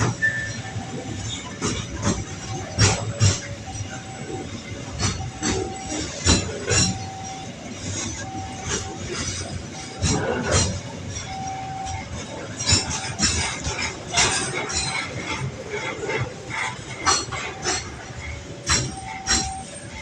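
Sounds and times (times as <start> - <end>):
freight train wheels clanking: 0.0 - 20.0
level-crossing warning tone: 0.0 - 20.0.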